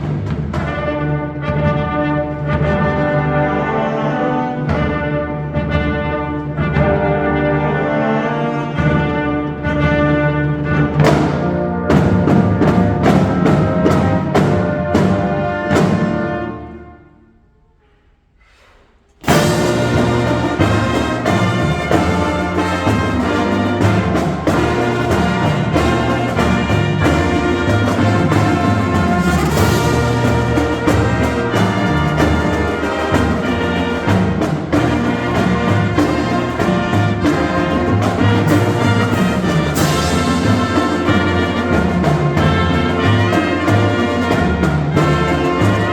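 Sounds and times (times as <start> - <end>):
marching band playing: 0.0 - 17.3, 19.2 - 45.9.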